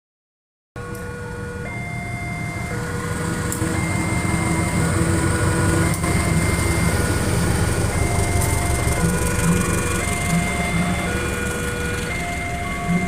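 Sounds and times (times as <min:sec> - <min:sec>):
train rumbling: 0:00.9 - 0:13.0
held electronic tones: 0:01.7 - 0:13.0.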